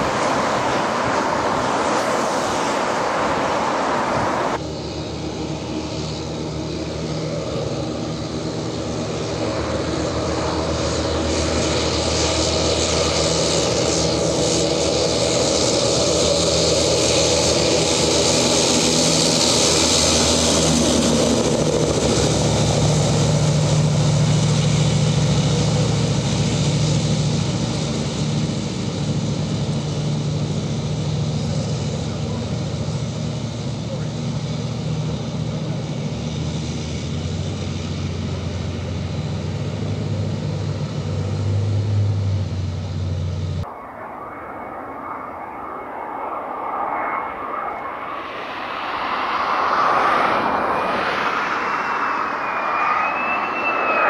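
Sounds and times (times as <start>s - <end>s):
armoured vehicle engine drone: 0.0s - 54.0s.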